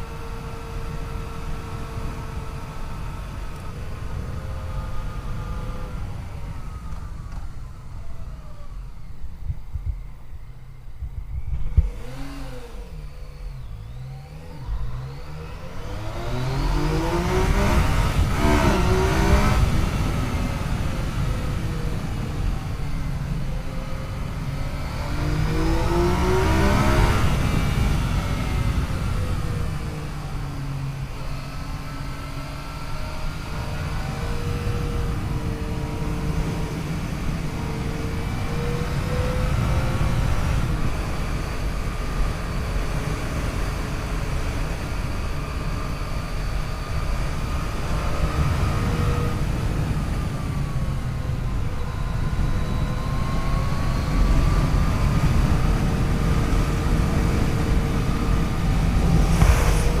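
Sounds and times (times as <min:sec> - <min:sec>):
motorcycle engine running: 0:00.0 - 1:00.0
wind and road noise: 0:00.0 - 1:00.0.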